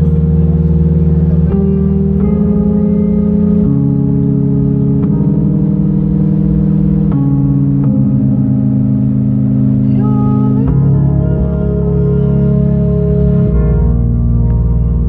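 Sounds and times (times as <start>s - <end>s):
band playing slow chords: 0.0s - 15.0s.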